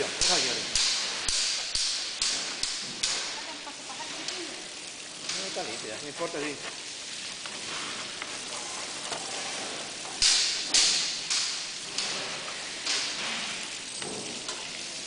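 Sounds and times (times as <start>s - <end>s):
water spattering in sink: 0.0s - 15.0s
water splashes: 0.0s - 15.0s.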